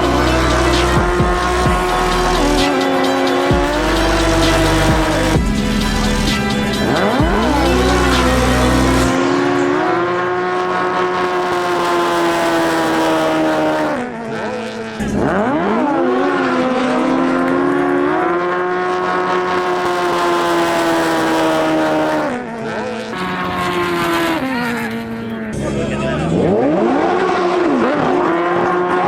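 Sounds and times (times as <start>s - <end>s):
jet ski engine revving: 0.0s - 29.0s.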